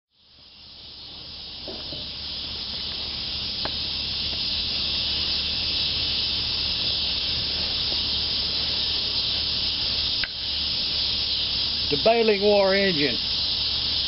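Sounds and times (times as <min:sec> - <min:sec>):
cicadas chorus hissing: 0:00.1 - 0:14.0.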